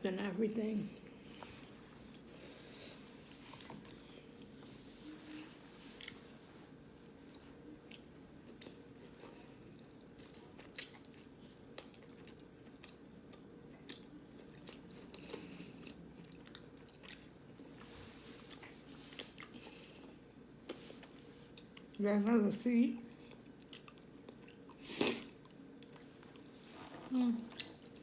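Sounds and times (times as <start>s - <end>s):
faint steady hum: 0.0s - 28.0s
person chewing: 1.3s - 4.7s, 7.2s - 22.0s, 23.1s - 28.0s.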